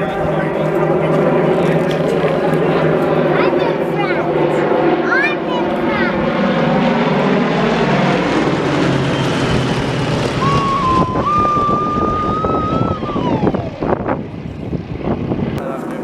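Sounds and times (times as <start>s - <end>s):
propeller aircraft engine running: 0.0s - 16.0s.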